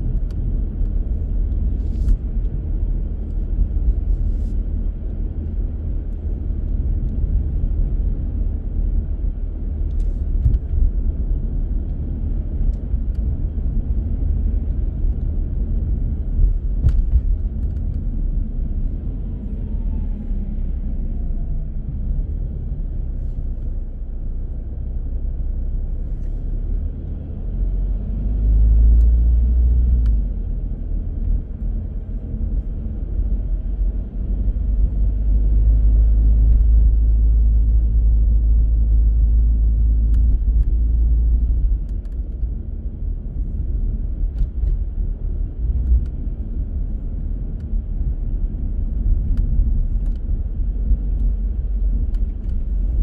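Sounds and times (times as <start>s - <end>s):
engine and road noise rumble: 0.0s - 53.0s.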